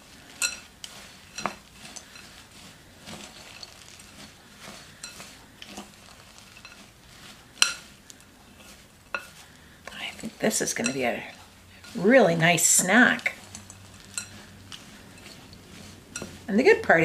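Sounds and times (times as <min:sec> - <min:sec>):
spoon scraping dry mixture: 0:00.0 - 0:17.0.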